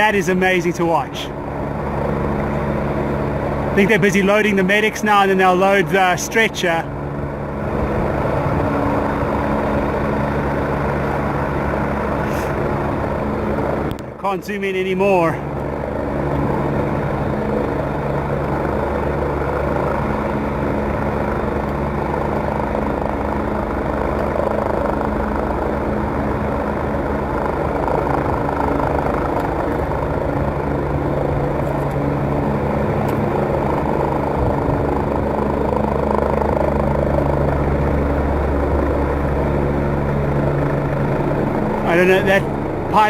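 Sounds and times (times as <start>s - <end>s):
helicopter hovering: 0.0s - 43.0s.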